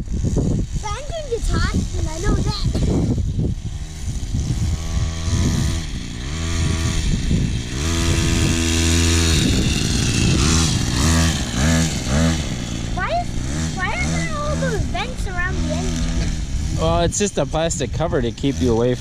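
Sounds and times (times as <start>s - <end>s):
mini bike engine revving: 0.0s - 19.0s.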